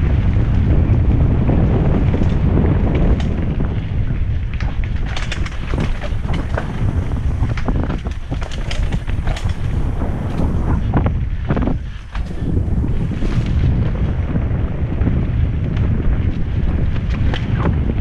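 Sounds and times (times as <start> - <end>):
bike rattling over dirt trail: 0.0 - 18.0
steady low rumble: 0.0 - 18.0
wind buffeting microphone: 0.0 - 18.0.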